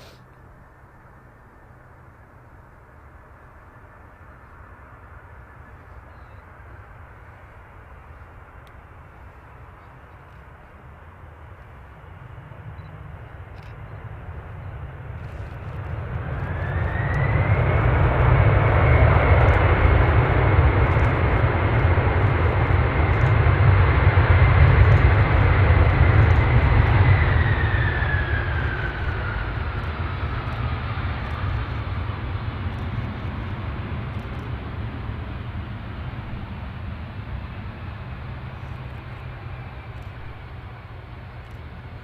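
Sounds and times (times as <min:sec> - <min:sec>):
jet engines passing: 0:00.0 - 0:42.0.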